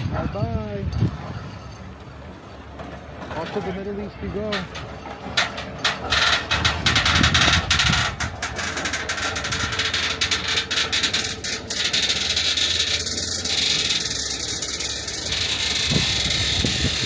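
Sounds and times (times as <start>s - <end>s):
heavy vehicle engine running: 1.6s - 17.0s.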